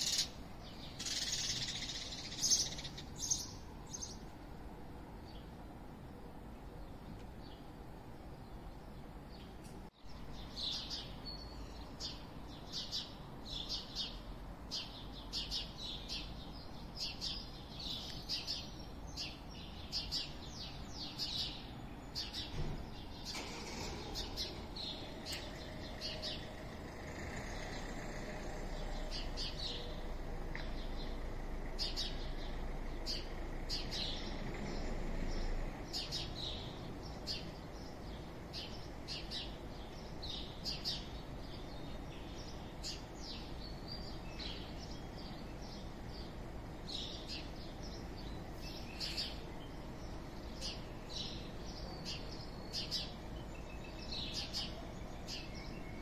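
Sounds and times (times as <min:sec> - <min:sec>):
low rumble of town: 0:00.0 - 0:56.0
small birds chirping: 0:00.0 - 0:56.0.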